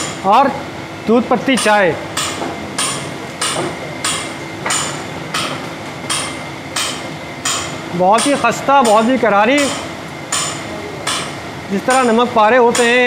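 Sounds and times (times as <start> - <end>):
hand tool striking metal tray: 1.6 - 13.0.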